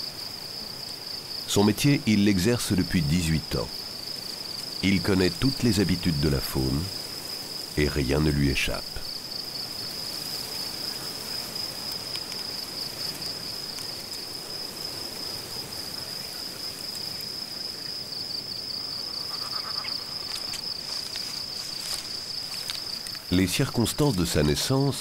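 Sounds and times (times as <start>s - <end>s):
insects chirring: 0.0s - 25.0s
soft background hiss: 0.0s - 25.0s.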